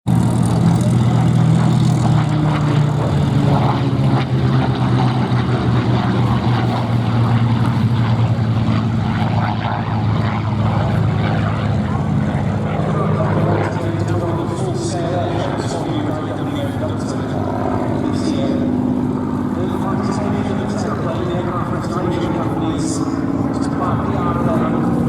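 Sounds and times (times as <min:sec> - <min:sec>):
propeller plane engine droning: 0:00.1 - 0:25.0.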